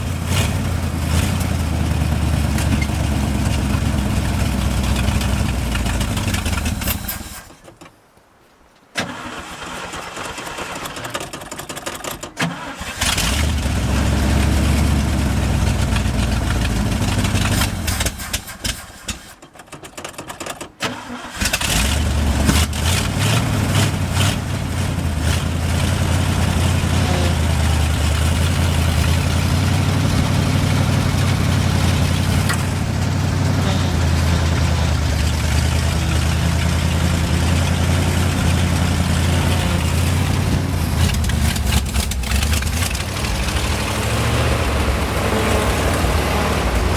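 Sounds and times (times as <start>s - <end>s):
truck engine stalling and restarting: 0.0s - 7.8s, 9.0s - 46.9s.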